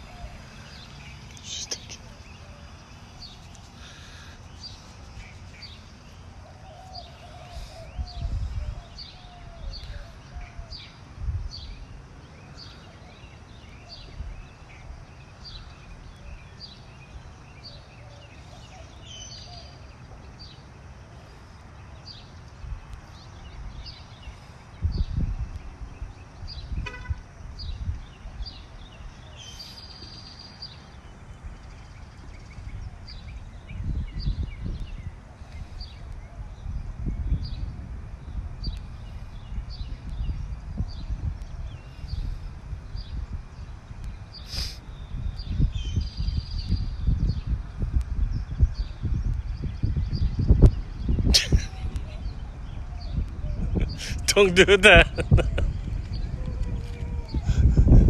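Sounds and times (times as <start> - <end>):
wind buffeting microphone: 3.0 - 20.6, 22.1 - 58.0.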